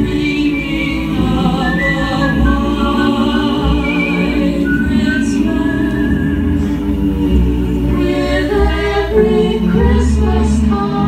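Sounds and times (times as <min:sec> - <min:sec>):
choir singing long chords: 0:00.0 - 0:11.0.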